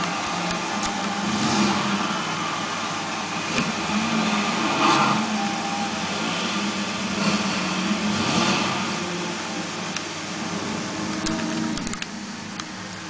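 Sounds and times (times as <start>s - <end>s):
computer fans whirring: 0.0s - 13.0s.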